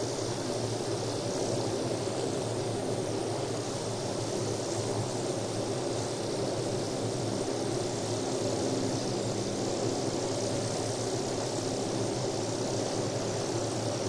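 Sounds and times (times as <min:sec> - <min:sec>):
helicopter engine and rotor drone: 0:00.0 - 0:14.0.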